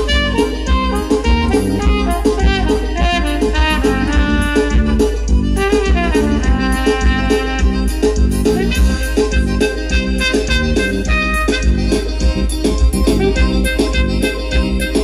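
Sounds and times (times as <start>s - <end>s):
amplified backing with bass and beat: 0.0s - 15.0s
trumpet solo: 0.0s - 15.0s.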